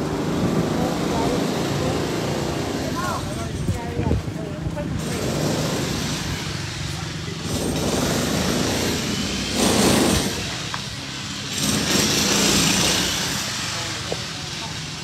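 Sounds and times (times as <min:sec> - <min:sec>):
street background rushing noise: 0:00.0 - 0:15.0.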